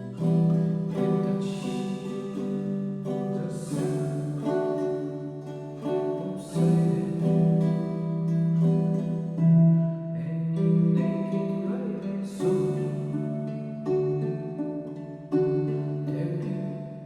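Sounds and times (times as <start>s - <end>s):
ukulele strumming chords: 0.0s - 17.0s.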